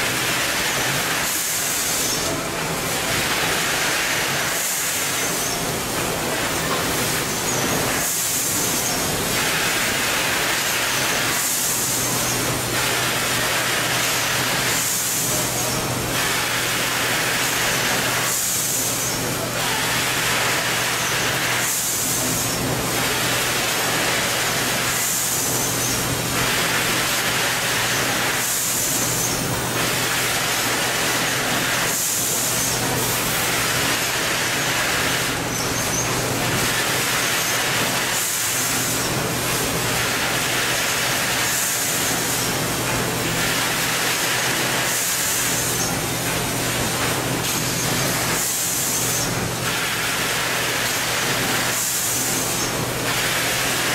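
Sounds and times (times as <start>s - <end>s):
cyclic hissing noise: 0.0s - 53.9s.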